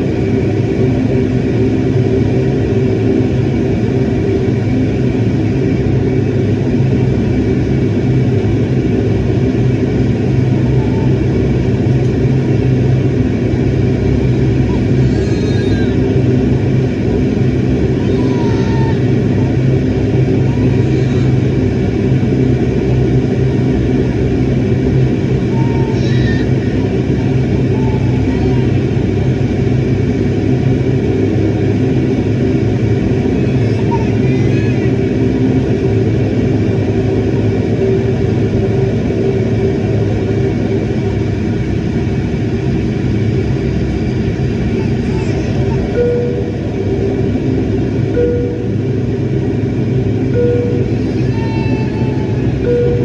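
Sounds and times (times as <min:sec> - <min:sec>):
airliner cabin engine drone: 0:00.0 - 0:53.0
thin steady whine: 0:00.0 - 0:53.0.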